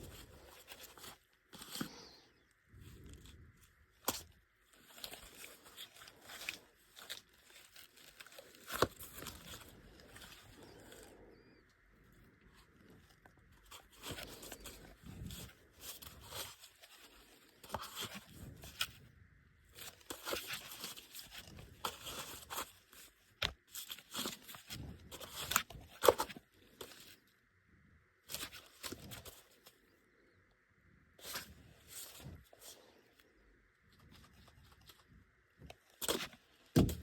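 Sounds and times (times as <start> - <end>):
rustling and crinkling handling: 0.0 - 37.0.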